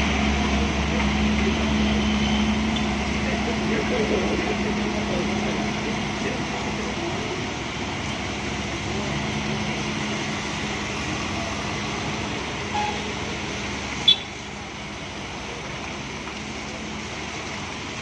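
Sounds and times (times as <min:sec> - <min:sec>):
low engine hum: 0:00.0 - 0:18.0
motorcycles and cars passing: 0:00.0 - 0:18.0
rain hissing: 0:00.0 - 0:18.0
tyres on wet road: 0:00.0 - 0:18.0.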